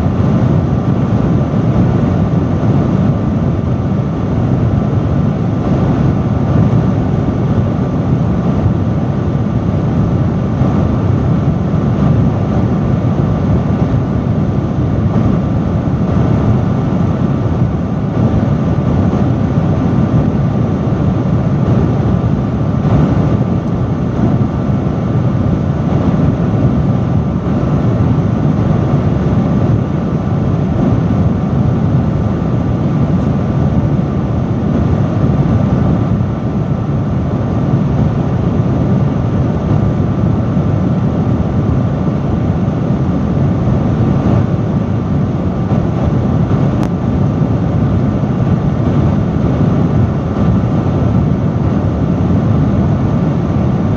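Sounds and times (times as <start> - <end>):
faint hum: 0.0 - 53.9
industrial fan rushing air: 0.0 - 53.9.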